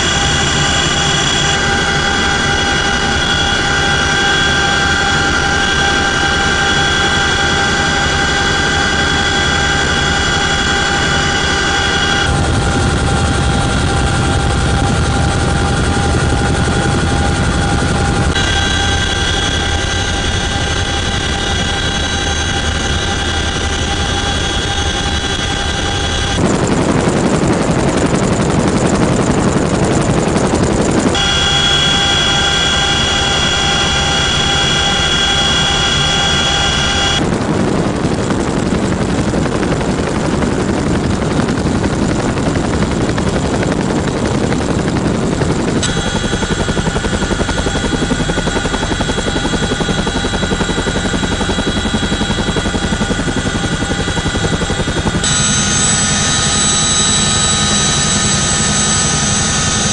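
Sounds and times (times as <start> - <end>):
helicopter rotor rumble: 0.0 - 59.9
helicopter turbine whine: 0.0 - 59.9.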